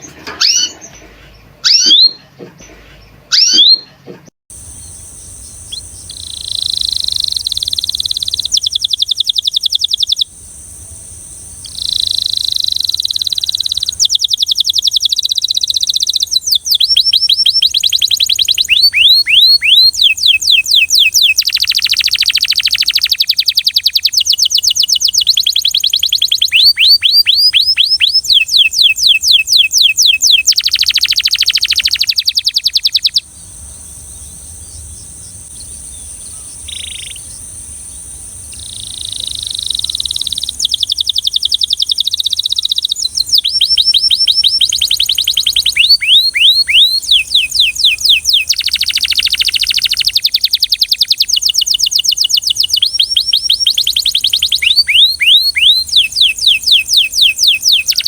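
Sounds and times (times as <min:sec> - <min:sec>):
canary singing trills: 0:00.0 - 0:02.4, 0:03.0 - 0:03.9, 0:04.5 - 0:58.0.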